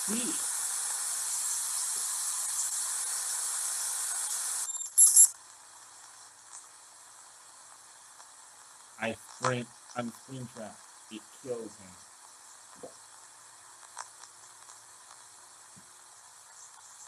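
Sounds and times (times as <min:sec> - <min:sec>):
loud high-pitched static burst: 0:00.0 - 0:17.0
static hiss: 0:00.0 - 0:17.0.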